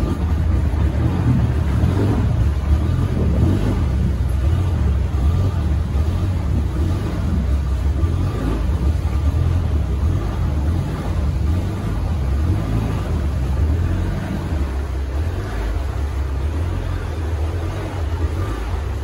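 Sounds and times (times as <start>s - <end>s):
speedboat engine rumble: 0.0s - 19.0s
water and hull noise: 0.0s - 19.0s.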